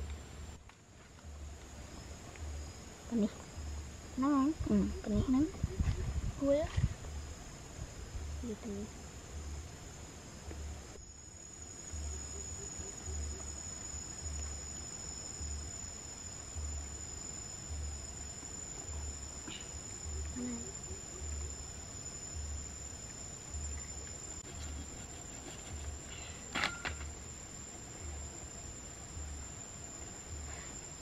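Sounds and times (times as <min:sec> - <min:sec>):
insects droning: 0:00.0 - 0:31.0
low pulsing throb: 0:01.2 - 0:26.1, 0:27.0 - 0:31.0.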